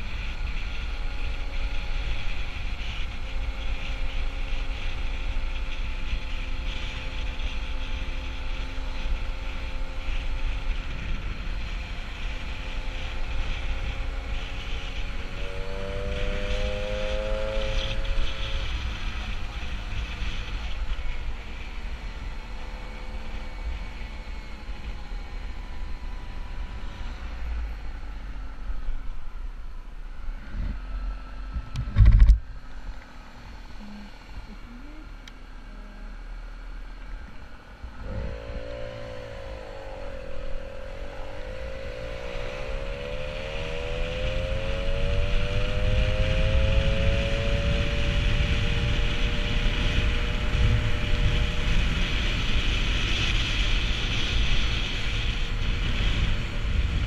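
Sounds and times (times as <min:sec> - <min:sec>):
moped engine accelerating: 0:00.0 - 0:57.0
wind and road noise: 0:00.0 - 0:57.0.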